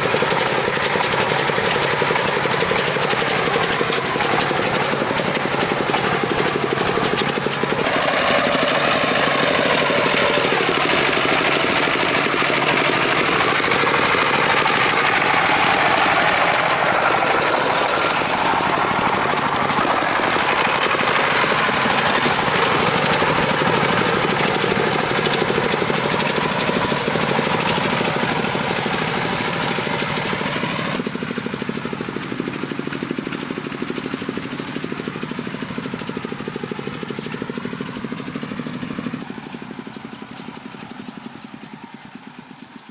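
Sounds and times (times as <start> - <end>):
truck engine knocking: 0.0 - 42.9.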